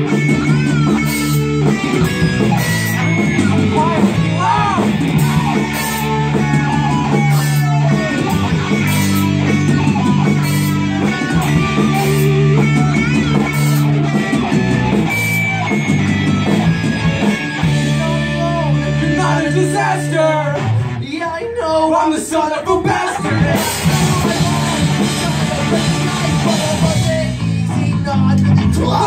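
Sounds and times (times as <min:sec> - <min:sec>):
electric guitar: 0:00.0 - 0:21.1, 0:22.7 - 0:29.0
live rock band playing: 0:00.0 - 0:29.0.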